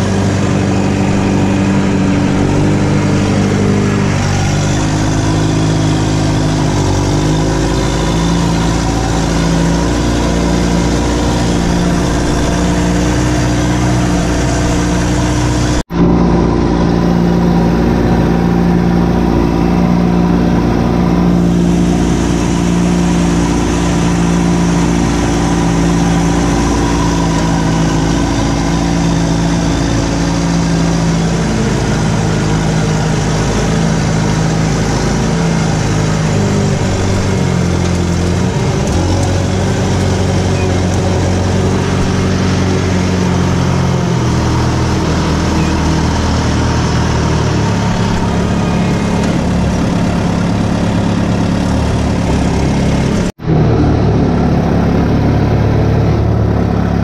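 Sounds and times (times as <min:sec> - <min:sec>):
loader engine running hard: 0:00.0 - 0:57.0.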